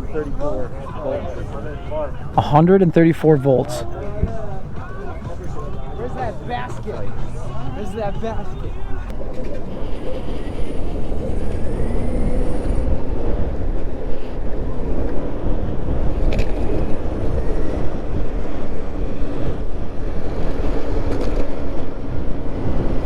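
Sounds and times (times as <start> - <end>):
road rumble: 0.0 - 23.0
wind rushing over microphone: 0.0 - 23.0.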